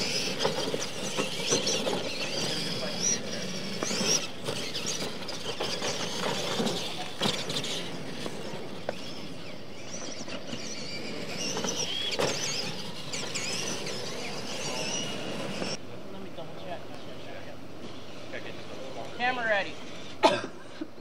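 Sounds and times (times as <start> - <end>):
electric motors whining: 0.0 - 15.8, 16.4 - 20.2.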